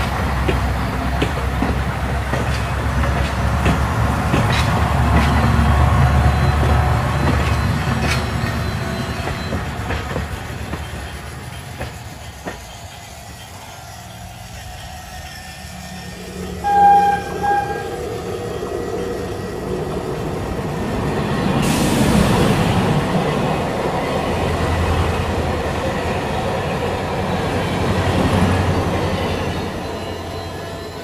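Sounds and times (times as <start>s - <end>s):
train rumbling along rails: 0.0s - 31.0s.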